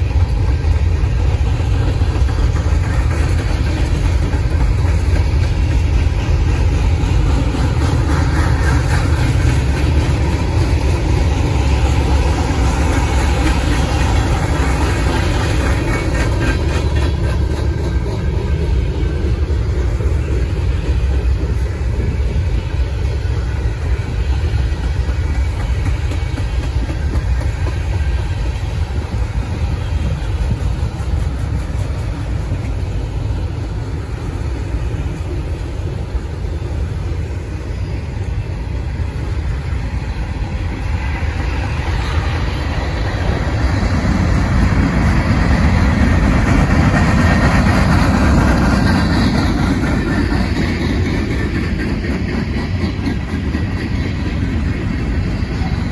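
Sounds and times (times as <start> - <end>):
freight train rolling past: 0.0 - 55.9.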